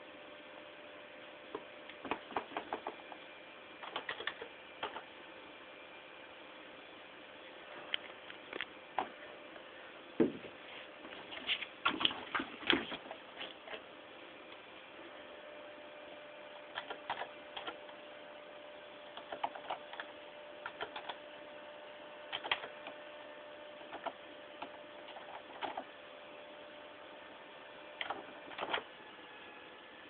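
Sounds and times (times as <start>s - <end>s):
steady hum with faint whine: 0.0s - 30.0s.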